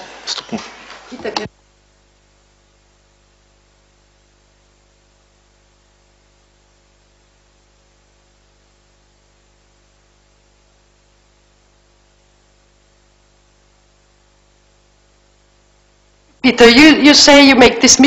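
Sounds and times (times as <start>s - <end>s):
faint electrical hum and hiss: 0.0s - 18.0s.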